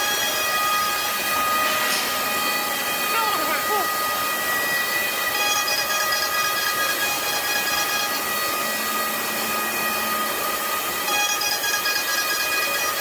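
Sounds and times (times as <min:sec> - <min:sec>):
router spindle cutting wood: 0:00.0 - 0:13.0.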